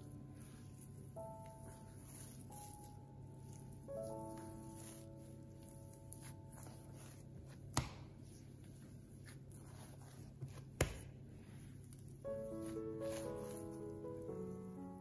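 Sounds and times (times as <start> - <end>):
hands kneading dough: 0.0 - 15.0.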